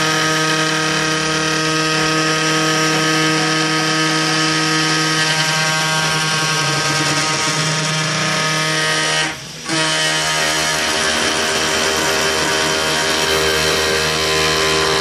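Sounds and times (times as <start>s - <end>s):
machine spindle whining: 0.0s - 15.0s.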